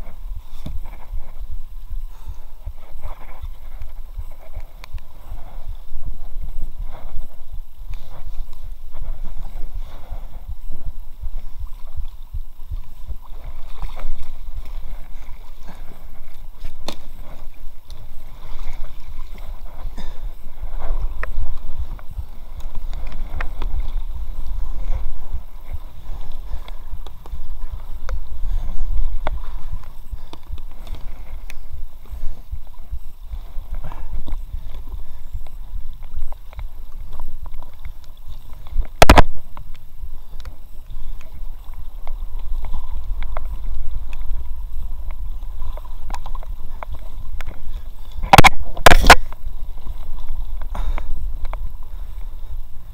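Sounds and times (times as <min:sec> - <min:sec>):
water rippling and splashing: 0:00.0 - 0:52.9
wind rumble on microphone: 0:00.0 - 0:52.9.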